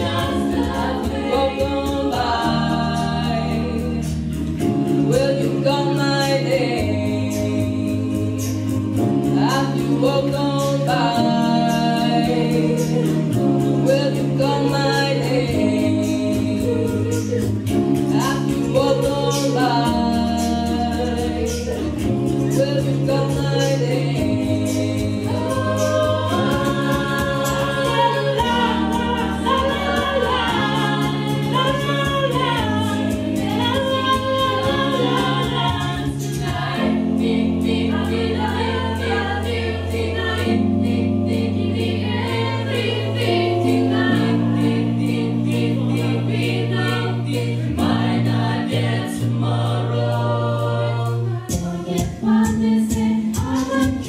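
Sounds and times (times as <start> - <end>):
choir singing: 0.0 - 54.0
held bass notes: 0.0 - 54.0.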